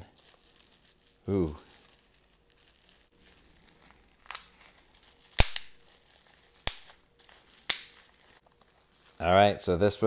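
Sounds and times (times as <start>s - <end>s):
bubble wrap crinkling: 0.0s - 10.0s
bubble wrap popping: 0.0s - 10.0s.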